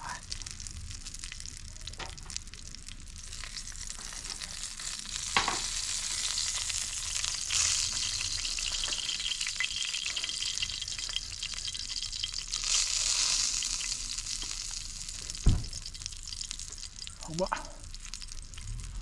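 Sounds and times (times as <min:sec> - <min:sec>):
fire sizzling and crackling: 0:00.0 - 0:19.0.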